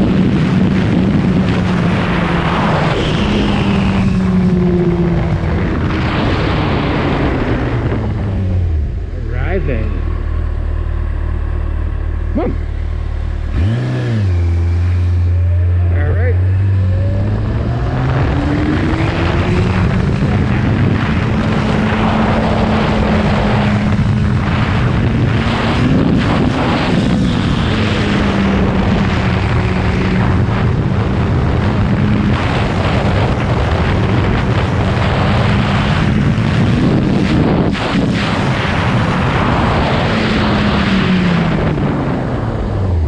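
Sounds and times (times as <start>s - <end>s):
motorcycle engine cruising: 0.0s - 43.0s
wind rush: 0.0s - 43.0s.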